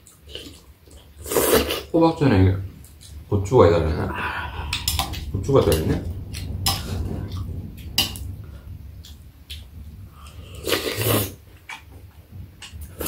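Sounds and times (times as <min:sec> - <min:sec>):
noisy eating: 0:00.0 - 0:02.0, 0:02.7 - 0:13.0.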